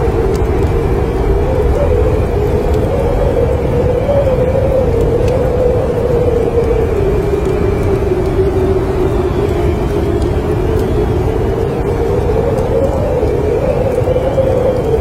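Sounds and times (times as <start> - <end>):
fireplace crackles: 0.0 - 15.0
wind howling: 0.0 - 15.0.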